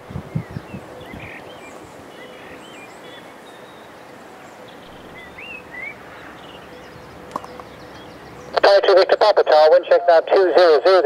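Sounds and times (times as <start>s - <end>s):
birds chirping: 0.0s - 11.0s
steady outdoor hiss: 0.0s - 11.0s.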